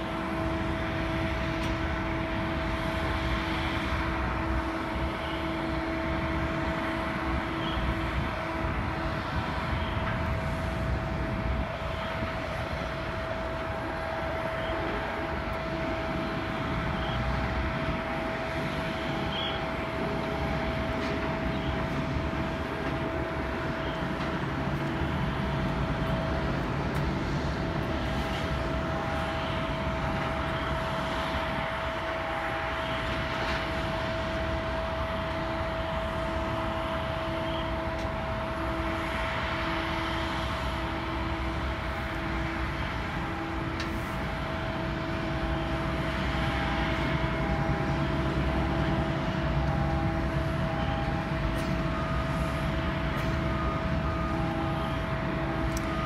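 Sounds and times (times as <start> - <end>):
jet engine whine: 0.0 - 56.0
jet engines rumbling: 0.0 - 56.0.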